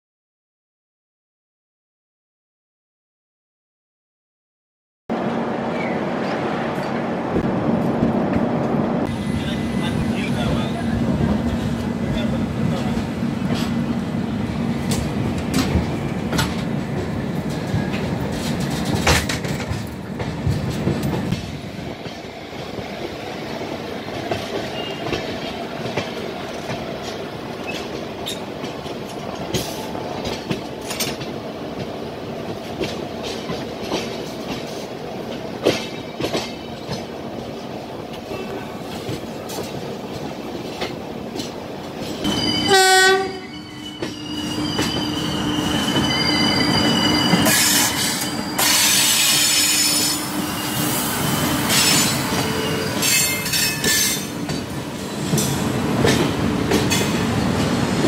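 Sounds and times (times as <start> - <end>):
train wheels rumbling on rail: 5.1 - 58.0.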